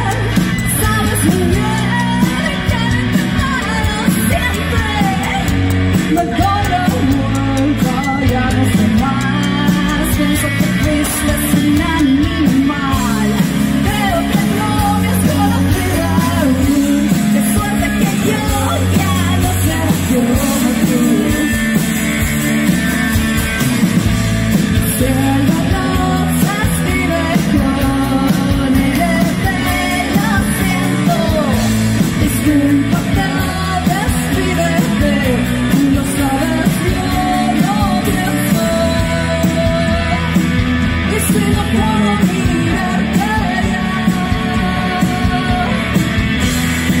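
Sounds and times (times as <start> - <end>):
person singing: 0.0 - 22.3, 24.7 - 47.0
rock band playing: 0.0 - 47.0.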